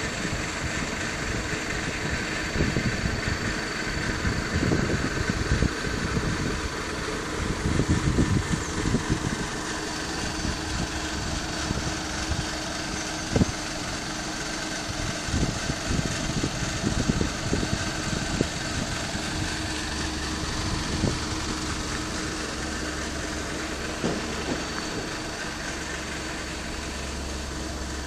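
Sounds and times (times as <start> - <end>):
backhoe loader engines: 0.0 - 28.0
street traffic: 0.0 - 28.0.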